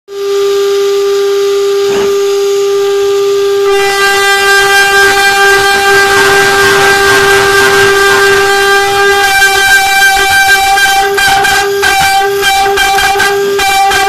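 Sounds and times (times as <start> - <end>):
spindle cutting metal whine: 0.1 - 14.0.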